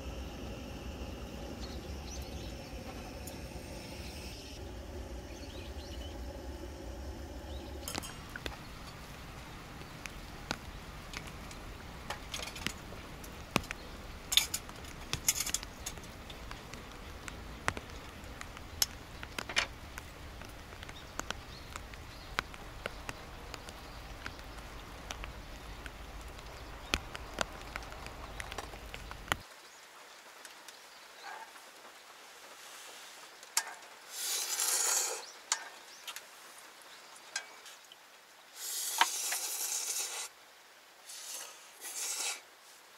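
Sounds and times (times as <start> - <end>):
outdoor background hiss: 0.0 - 42.9.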